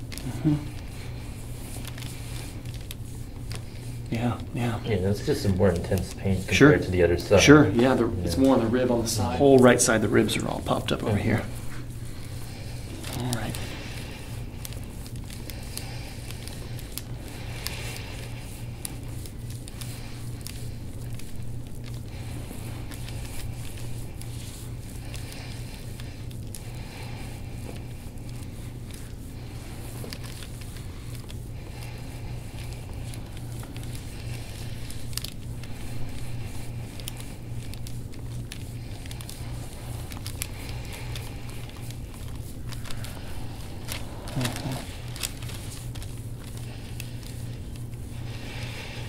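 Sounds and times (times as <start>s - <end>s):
hands rubbing skin: 0.0s - 49.0s
steady low hum: 0.0s - 49.0s.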